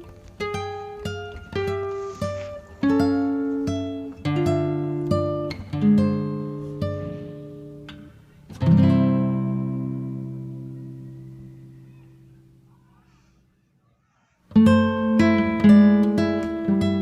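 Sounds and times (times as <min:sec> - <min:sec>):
acoustic guitar chords: 0:00.0 - 0:13.0, 0:14.5 - 0:17.0.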